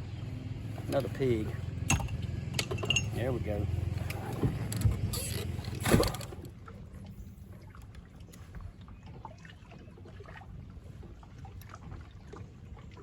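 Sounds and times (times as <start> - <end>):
water lapping: 0.0 - 13.0.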